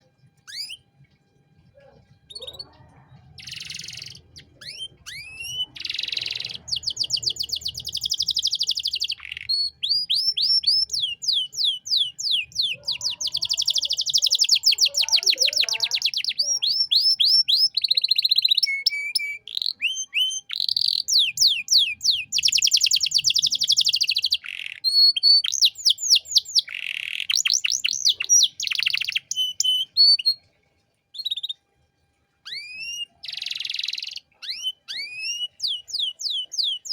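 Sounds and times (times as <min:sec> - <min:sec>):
canary singing trills: 0:00.0 - 0:30.5, 0:31.1 - 0:31.6, 0:32.4 - 0:36.9.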